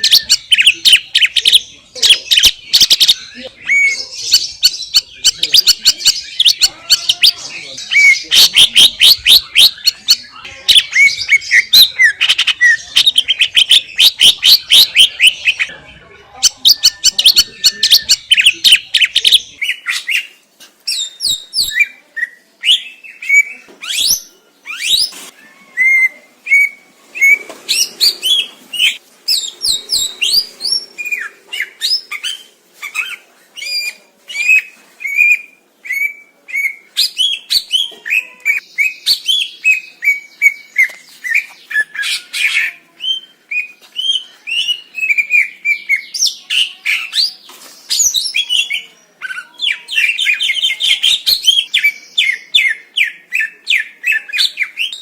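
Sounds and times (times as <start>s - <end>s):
bird singing chattering notes: 0.0s - 15.7s, 16.4s - 55.0s.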